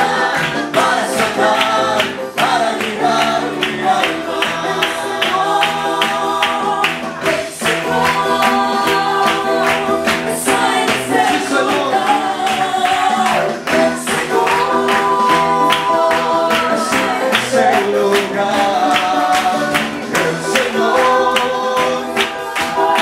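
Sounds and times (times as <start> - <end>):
group singing worship song: 0.0 - 23.0
instrumental accompaniment with beat: 0.0 - 23.0.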